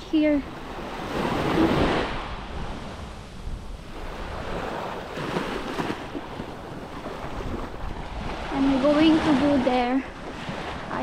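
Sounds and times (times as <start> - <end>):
wind buffeting microphone: 0.0 - 11.0
sea waves breaking on sand: 0.4 - 11.0.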